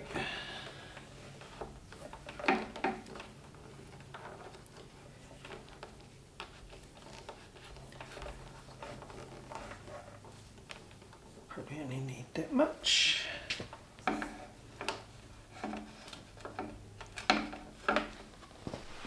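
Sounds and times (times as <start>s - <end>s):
cable taps and rubbing: 1.0s - 11.4s, 13.5s - 19.0s.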